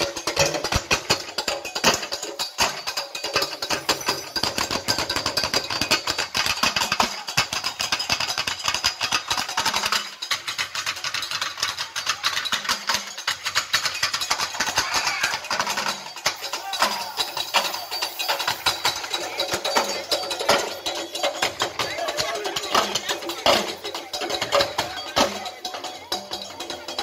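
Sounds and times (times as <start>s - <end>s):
fast dense drumming: 0.0s - 27.0s.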